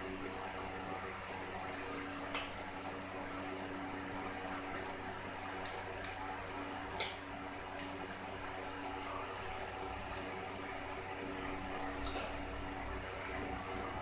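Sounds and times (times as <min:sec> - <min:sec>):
background hum: 0:00.0 - 0:14.0.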